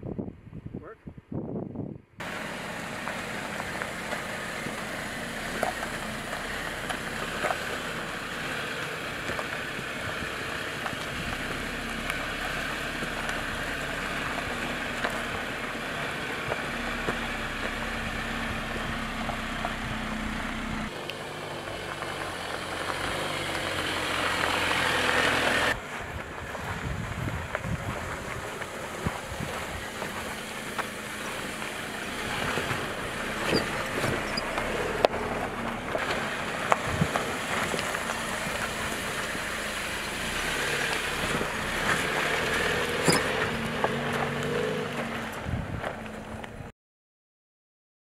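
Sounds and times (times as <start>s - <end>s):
engine running at low revs: 2.2s - 46.7s.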